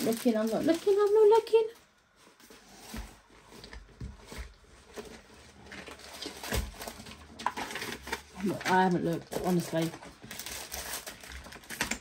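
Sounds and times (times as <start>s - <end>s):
paper and plastic rustling: 0.0s - 12.0s.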